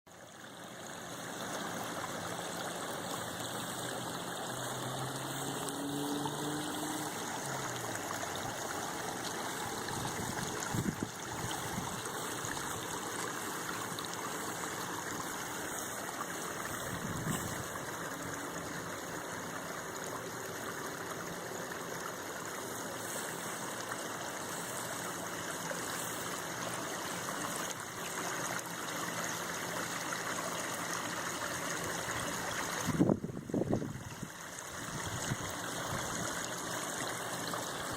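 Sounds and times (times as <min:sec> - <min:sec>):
water pouring over waterfall: 0:00.2 - 0:37.9.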